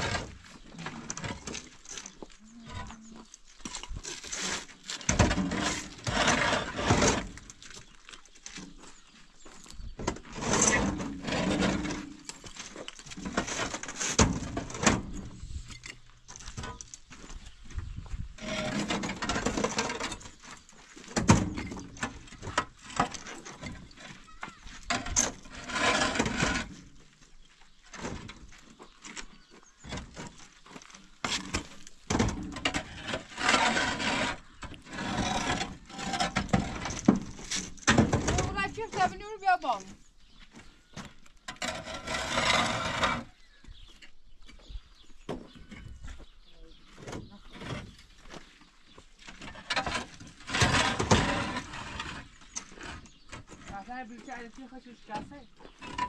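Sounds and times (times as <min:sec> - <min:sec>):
concrete blocks clunking and scraping: 0:00.0 - 0:56.0.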